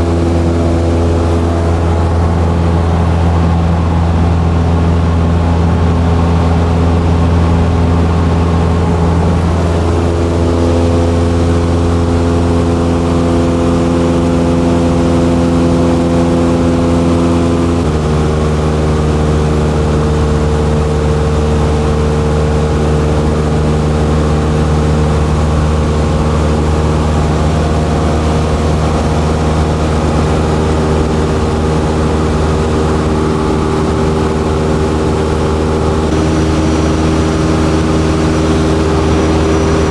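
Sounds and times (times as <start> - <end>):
light airplane engine and propeller: 0.0 - 39.9.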